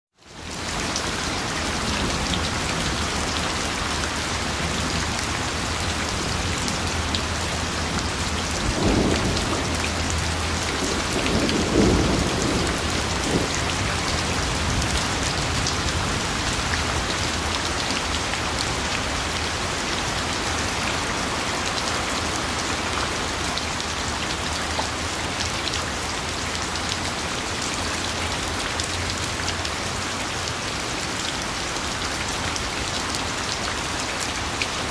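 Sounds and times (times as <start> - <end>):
heavy rain pattering: 0.2 - 34.9.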